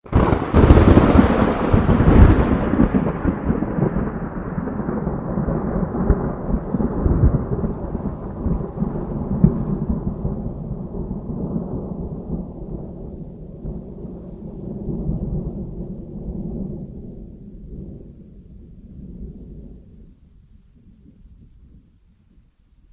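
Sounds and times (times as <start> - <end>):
thunder crack: 0.0 - 20.1
low thunder rumble: 0.0 - 22.9.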